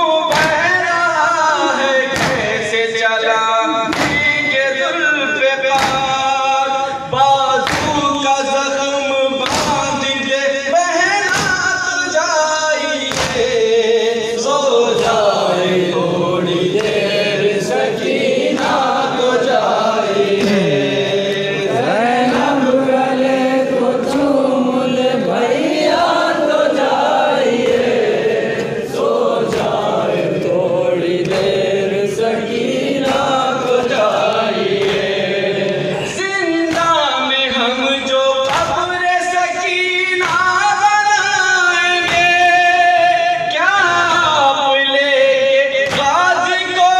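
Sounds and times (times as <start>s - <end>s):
men chanting together: 0.0s - 46.9s
rhythmic thumps: 0.0s - 46.9s.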